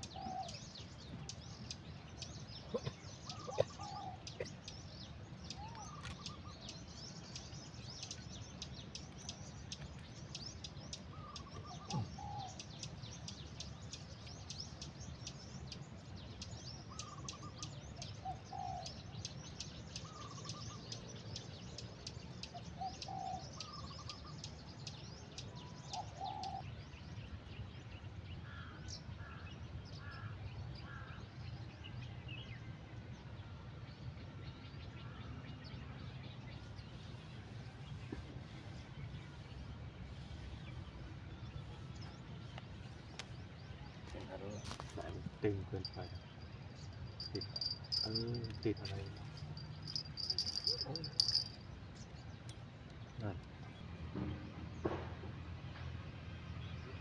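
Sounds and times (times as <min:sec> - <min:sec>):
birds twittering: 0:00.0 - 0:54.9.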